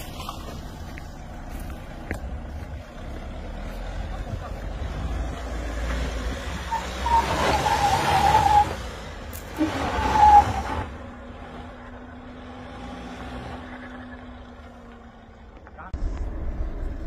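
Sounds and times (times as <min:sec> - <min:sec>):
engine working under load: 0:00.0 - 0:17.0.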